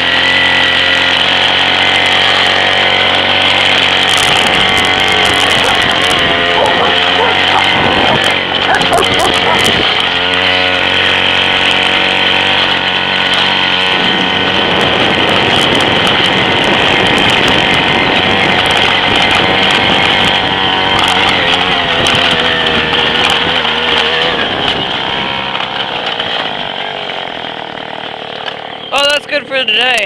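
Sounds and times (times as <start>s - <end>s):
scooter engine running: 0.0s - 30.0s.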